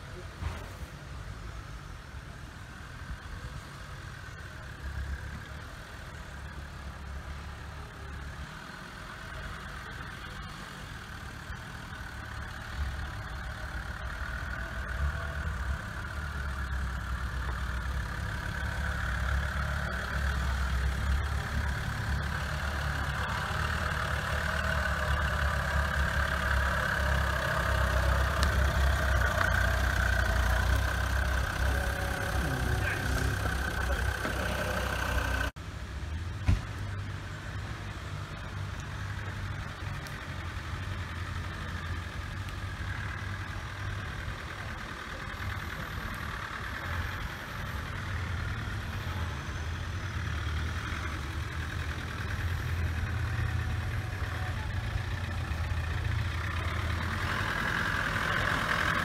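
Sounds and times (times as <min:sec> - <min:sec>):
vehicle engine driving slowly: 0:00.0 - 0:59.0.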